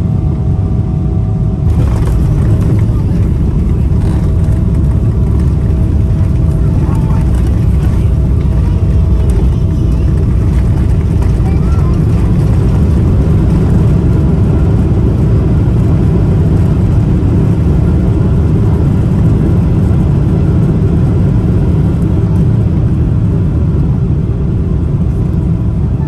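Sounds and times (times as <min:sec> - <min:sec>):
jet engines rumbling in cabin: 0:00.0 - 0:26.0.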